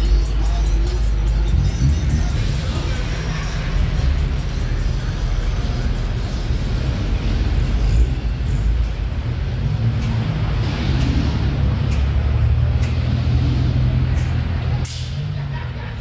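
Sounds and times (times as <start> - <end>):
car engines rolling past: 0.0 - 16.0.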